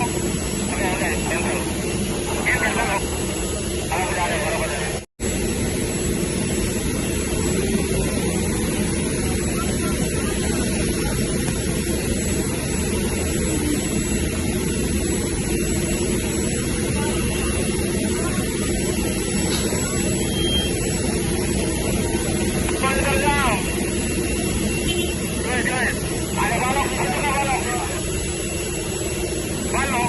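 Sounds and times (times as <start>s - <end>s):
aircraft engine drone: 0.0s - 30.0s.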